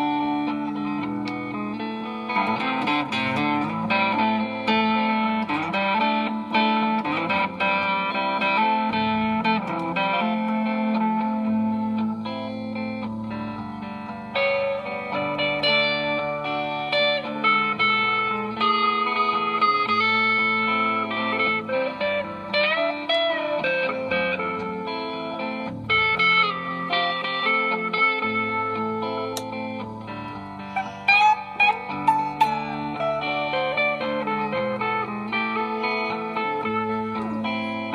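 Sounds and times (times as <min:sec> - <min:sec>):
electric guitar playing: 0:00.0 - 0:37.9.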